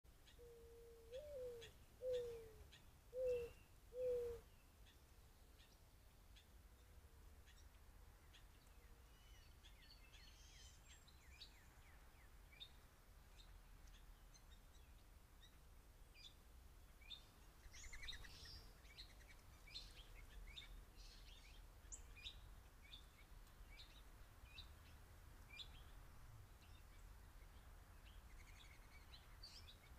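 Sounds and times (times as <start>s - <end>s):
faint birdsong: 0.1s - 29.9s
low background noise: 0.1s - 29.9s.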